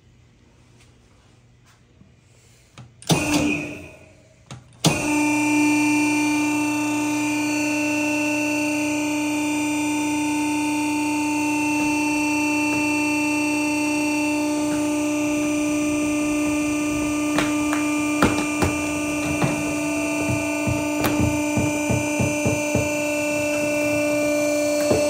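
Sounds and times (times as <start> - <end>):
baler motor humming and whining: 3.0 - 25.0.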